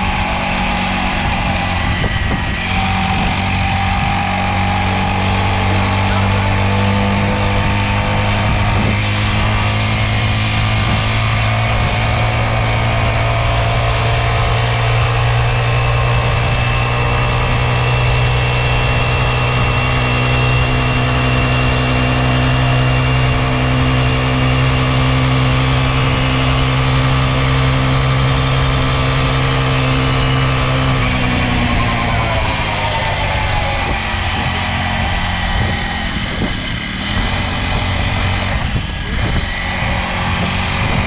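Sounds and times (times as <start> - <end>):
dirt bike engine running: 0.0 - 41.0.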